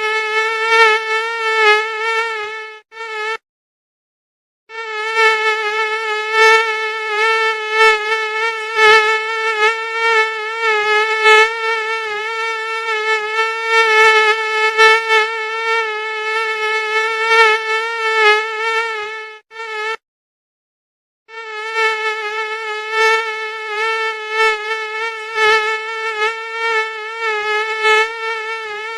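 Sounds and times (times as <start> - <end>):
mosquito whining buzz: 0.0 - 3.4, 4.7 - 20.0, 21.3 - 28.9.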